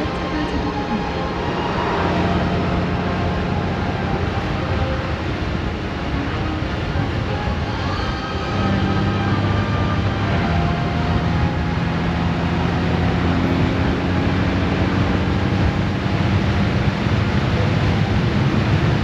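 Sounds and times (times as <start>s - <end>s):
motorcycle engine drone: 0.0s - 19.0s
road noise: 0.0s - 19.0s
wind rush: 0.0s - 19.0s.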